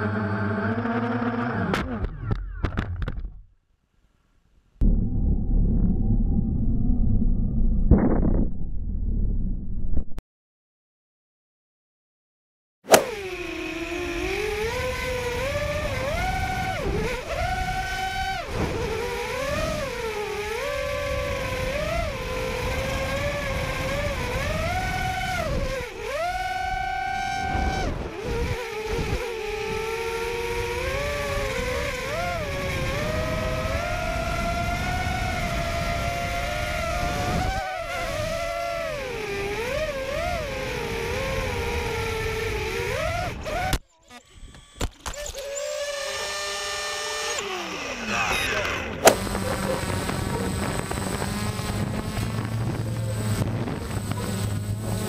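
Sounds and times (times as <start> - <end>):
drone propellers whining: 0.0 - 3.2, 4.8 - 10.0, 12.9 - 55.0.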